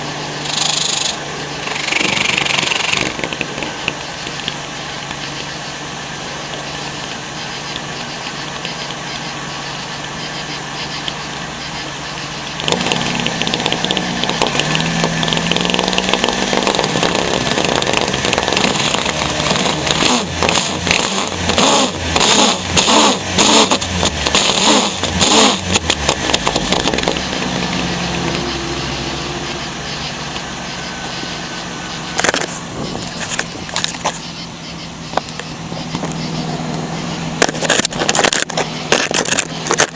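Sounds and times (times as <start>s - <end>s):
van engine idling and revving: 0.0s - 39.9s
sharp clicks: 0.2s - 39.9s.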